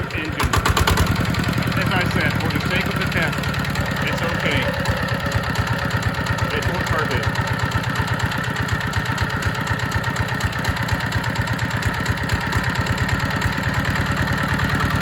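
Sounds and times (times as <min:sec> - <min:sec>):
diesel engine running fast: 0:00.0 - 0:15.0.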